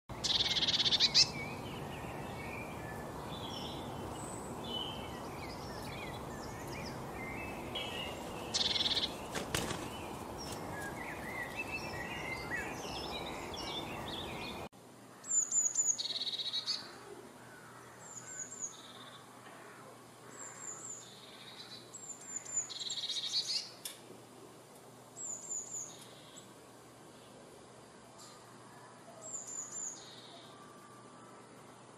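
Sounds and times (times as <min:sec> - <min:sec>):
small songbirds chirping: 0:00.1 - 0:19.3, 0:20.2 - 0:23.8, 0:25.2 - 0:27.5, 0:28.2 - 0:31.9.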